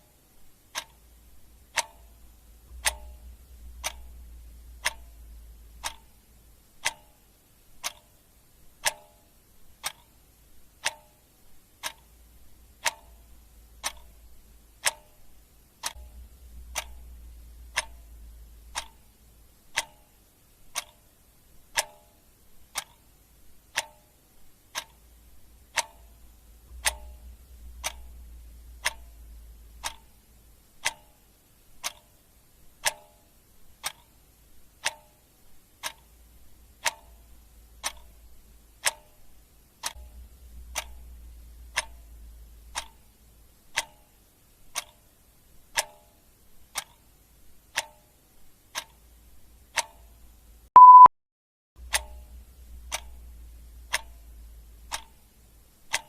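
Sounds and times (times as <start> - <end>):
faint low rumble: 0.0 - 21.8, 22.4 - 32.9, 35.4 - 45.8, 51.8 - 56.0
clock ticking: 0.0 - 51.1, 51.8 - 56.0.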